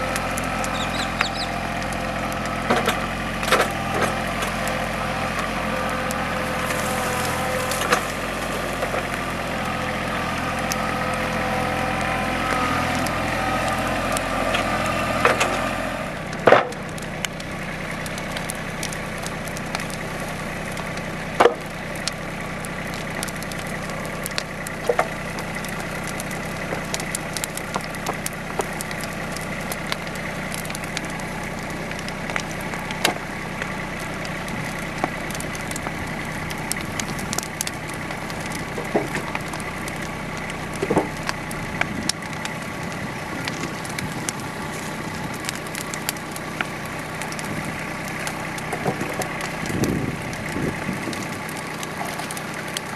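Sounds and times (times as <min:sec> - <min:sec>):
bonfire crackling: 0:00.0 - 0:52.9
tractor engine running: 0:00.0 - 0:52.9.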